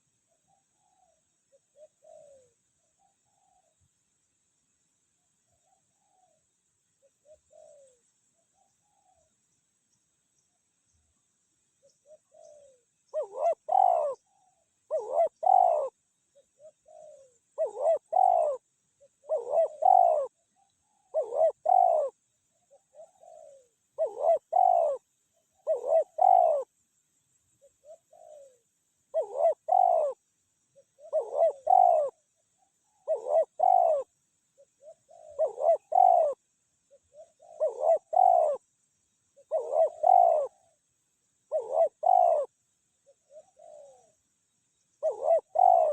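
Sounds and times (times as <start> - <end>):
dove cooing: 0.0 - 3.8, 5.6 - 9.3, 11.8 - 26.8, 27.6 - 38.8, 39.4 - 44.2, 45.0 - 45.9.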